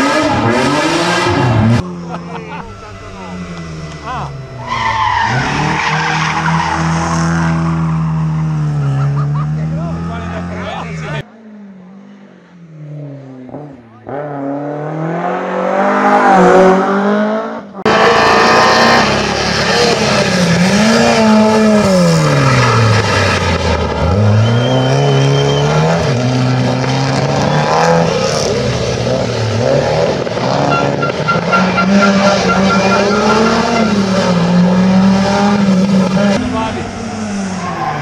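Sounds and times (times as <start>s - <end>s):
rally car engine accelerating: 0.0s - 38.0s
rally car engine revving: 0.0s - 38.0s.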